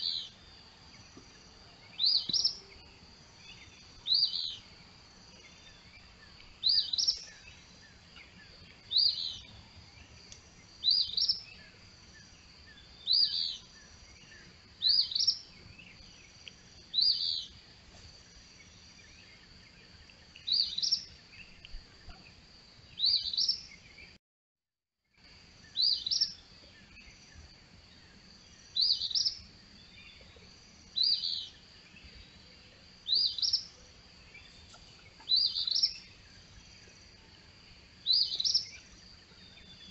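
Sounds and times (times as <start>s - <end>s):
songbird singing: 0.0s - 24.2s, 25.2s - 39.9s.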